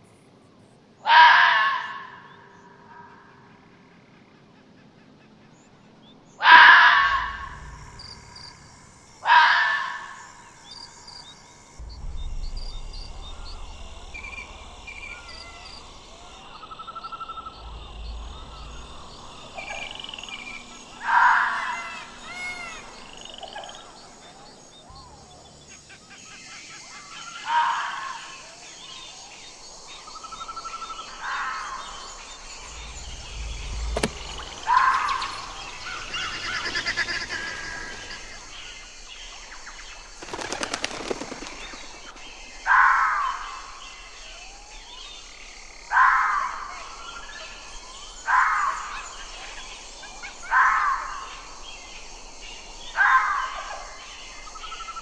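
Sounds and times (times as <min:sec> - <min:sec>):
birds chirping faintly: 0:04.2 - 0:55.0.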